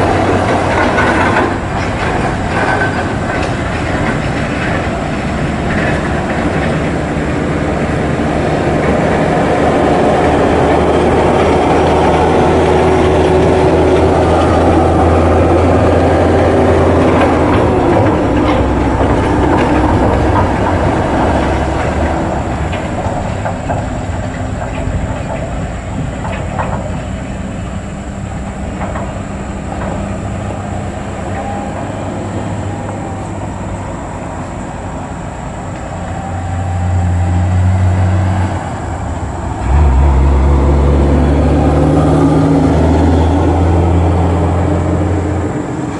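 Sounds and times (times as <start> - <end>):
diesel truck engine under load: 0.0 - 45.9.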